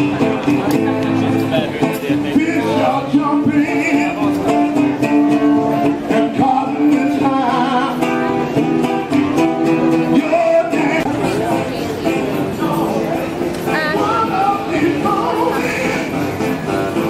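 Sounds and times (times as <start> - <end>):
acoustic guitar strumming: 0.0 - 17.0
man singing: 1.8 - 11.4, 12.4 - 17.0.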